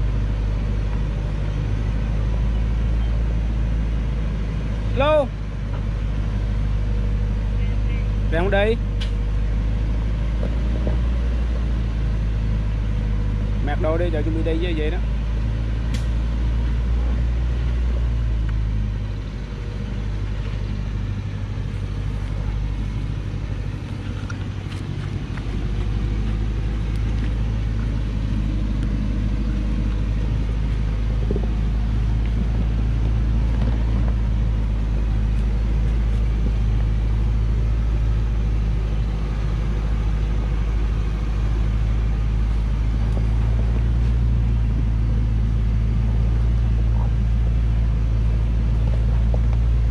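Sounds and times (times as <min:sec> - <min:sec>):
diesel truck engine droning: 0:00.0 - 0:49.9.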